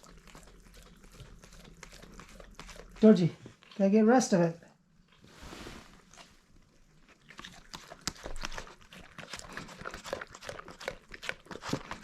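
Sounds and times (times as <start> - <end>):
dog licking and chewing: 0.0 - 4.1, 6.1 - 12.0.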